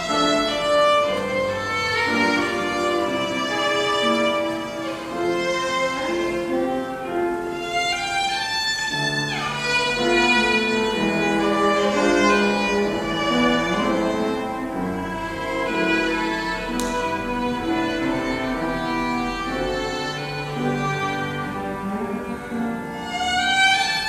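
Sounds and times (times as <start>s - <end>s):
piano trio classical piece: 0.0s - 24.0s.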